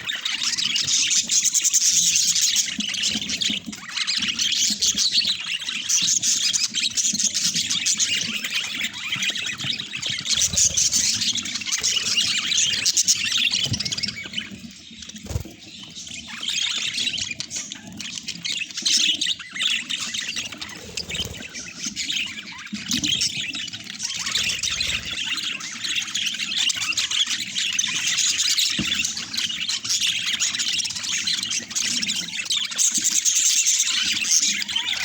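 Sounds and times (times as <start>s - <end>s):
budgerigars chattering: 0.0s - 35.0s.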